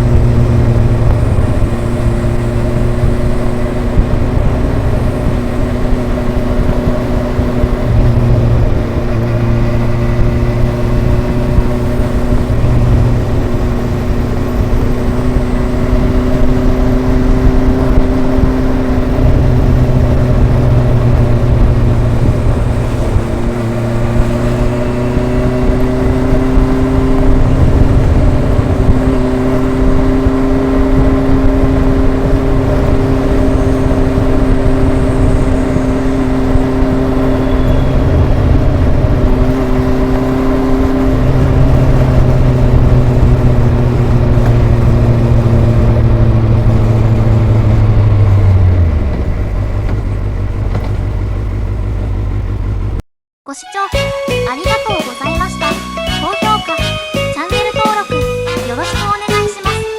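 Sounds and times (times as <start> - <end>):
motorcycle exhaust cruising: 0.0 - 53.0.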